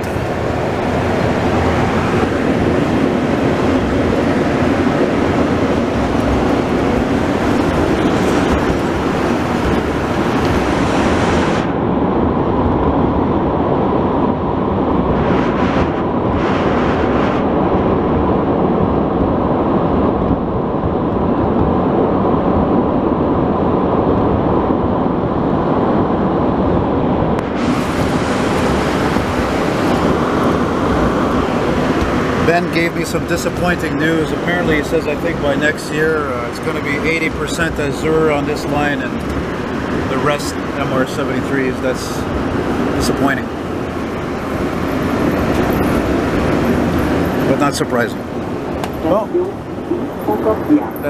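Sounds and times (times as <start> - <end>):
train rumbling in tunnel: 0.0 - 51.0.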